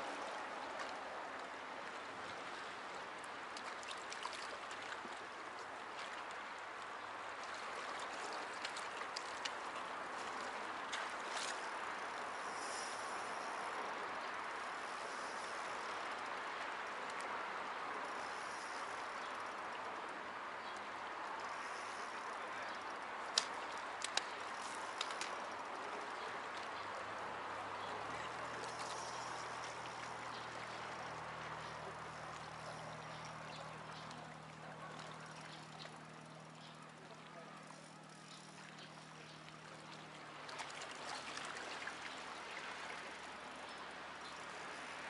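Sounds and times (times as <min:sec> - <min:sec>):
waves lapping against rocks: 0:00.0 - 0:17.3, 0:21.0 - 0:45.0
faint low engine hum: 0:00.0 - 0:45.0.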